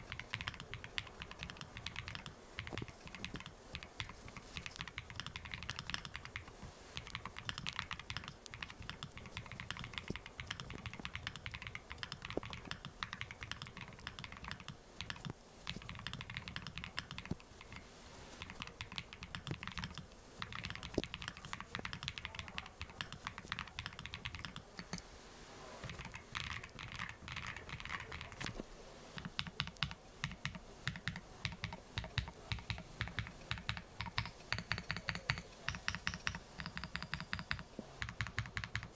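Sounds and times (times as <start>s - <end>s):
fast typing on mechanical keyboard: 0.0s - 17.8s, 18.4s - 25.0s, 25.8s - 28.6s, 29.2s - 38.9s.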